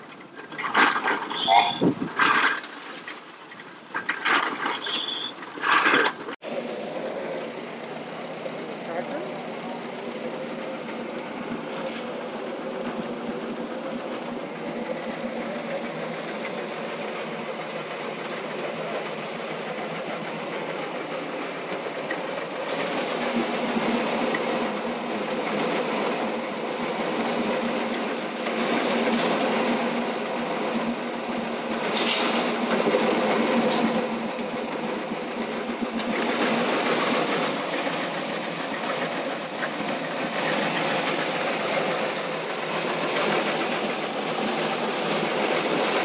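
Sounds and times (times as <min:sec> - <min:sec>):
continuous machine hum: 0:05.4 - 0:46.0
feed grinder rattling: 0:07.6 - 0:46.0.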